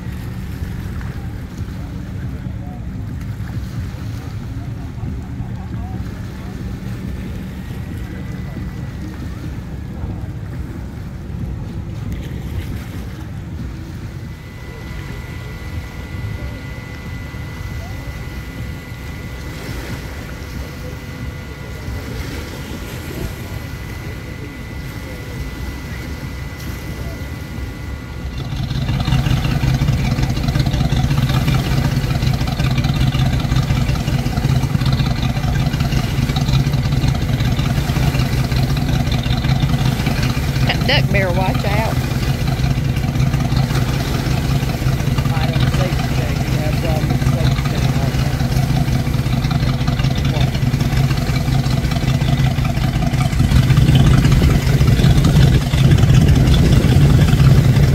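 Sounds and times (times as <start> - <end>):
faint steady whine: 0.0 - 57.9
motorboat engines idling: 0.0 - 57.9.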